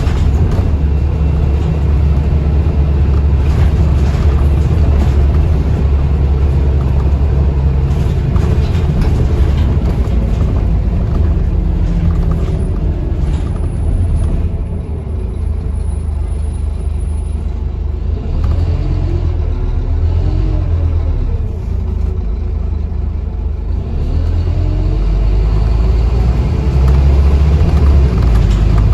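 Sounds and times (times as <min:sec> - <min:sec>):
bus engine and road rumble: 0:00.0 - 0:28.9.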